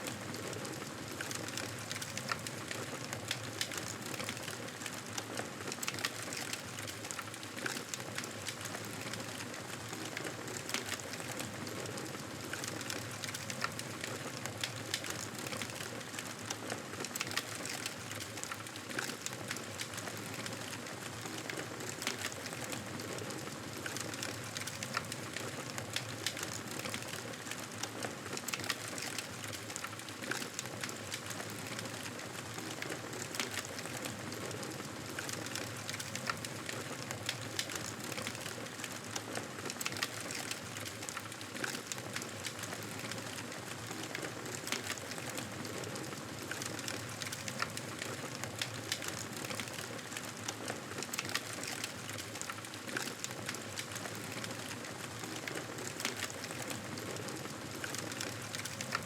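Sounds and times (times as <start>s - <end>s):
fire crackling in a fireplace: 0.0s - 59.0s.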